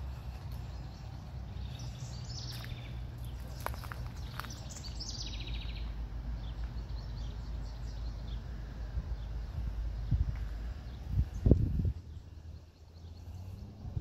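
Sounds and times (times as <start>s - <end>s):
low steady rumble: 0.0s - 14.0s
songbirds chirping: 0.0s - 14.0s.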